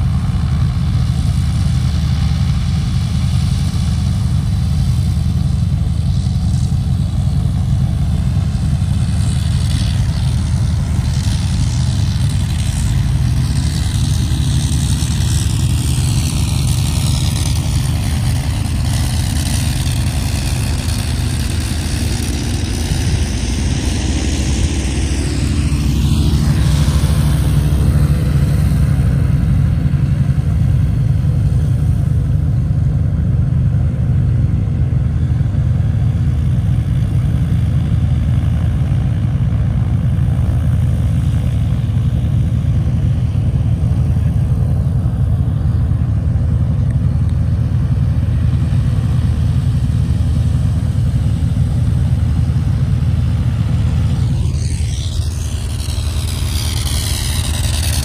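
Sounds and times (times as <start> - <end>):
aircraft engine droning: 0.0 - 58.0.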